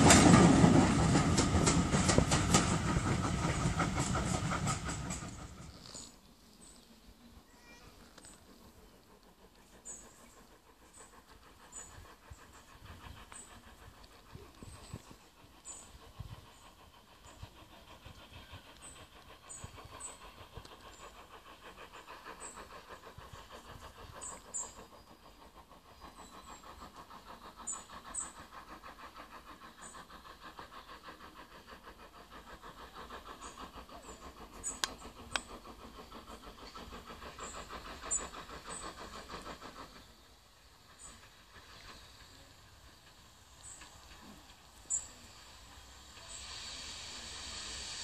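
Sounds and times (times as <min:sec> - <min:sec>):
steam locomotive exhaust beat: 0:00.0 - 0:48.0.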